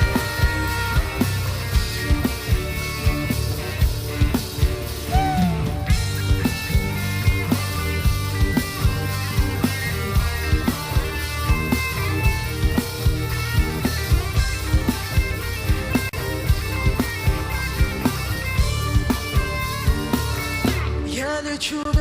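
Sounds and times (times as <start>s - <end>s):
drum kit beat: 0.0s - 21.2s
heavy bass: 0.0s - 21.4s
keyboard and guitar chords: 0.0s - 22.0s.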